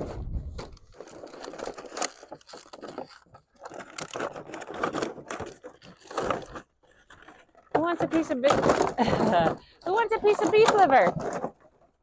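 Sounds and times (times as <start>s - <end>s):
rustling scraping and crunching: 0.0s - 12.0s.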